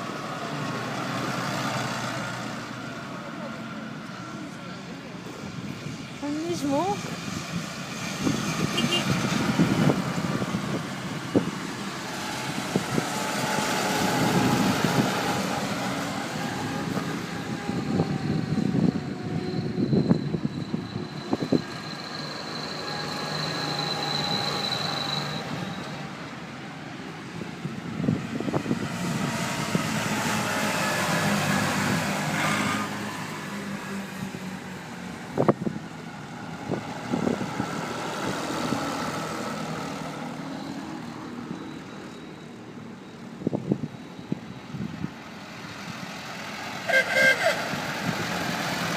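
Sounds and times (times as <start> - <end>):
tractor diesel engines passing: 0.0 - 48.9.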